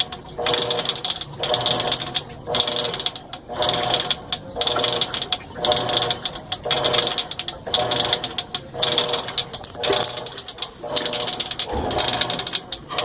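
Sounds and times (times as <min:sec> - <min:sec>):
washing machine agitating: 0:00.0 - 0:13.0
whine with rapid clicking: 0:00.0 - 0:13.0.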